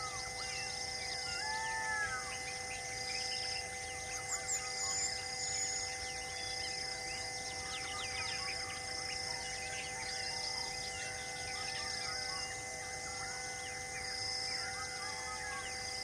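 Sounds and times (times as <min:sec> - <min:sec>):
insect high pulsing call: 0:00.0 - 0:16.0.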